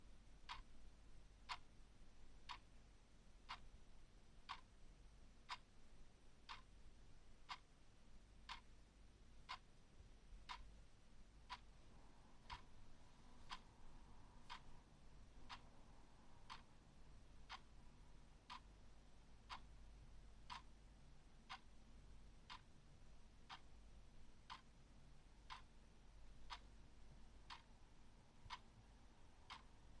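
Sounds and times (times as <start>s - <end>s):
clock ticking: 0.0s - 30.0s.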